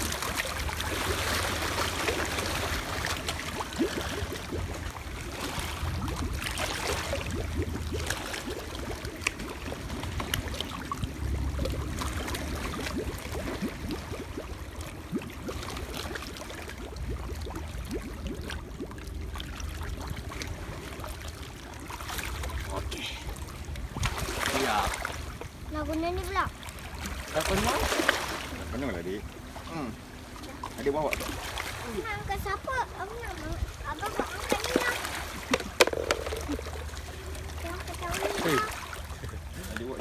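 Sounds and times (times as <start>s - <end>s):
bottles gurgling filling with water: 0.0s - 26.9s, 32.0s - 40.0s
seawater lapping around rocks: 0.0s - 40.0s.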